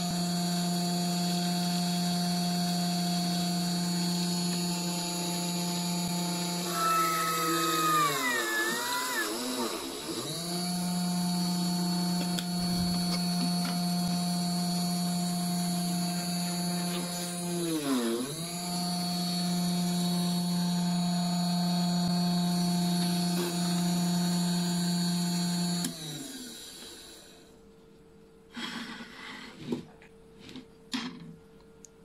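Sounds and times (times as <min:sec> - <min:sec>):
small drill motor whine: 0:00.0 - 0:27.5.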